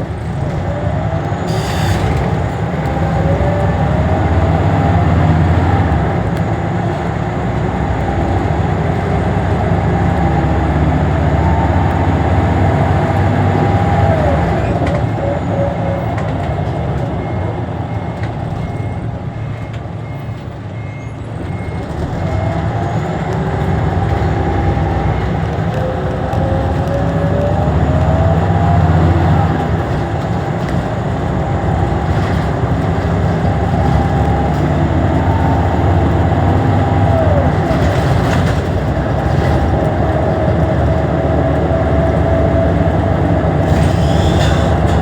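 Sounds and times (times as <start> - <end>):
bus engine hum: 0.0 - 45.0.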